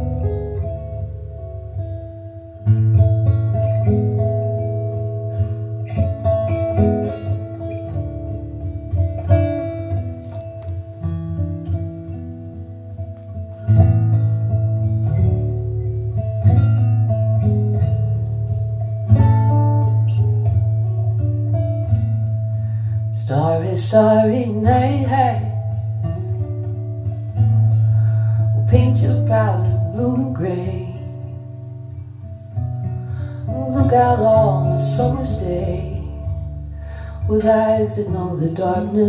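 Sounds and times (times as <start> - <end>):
picked guitar notes: 0.0 - 39.0.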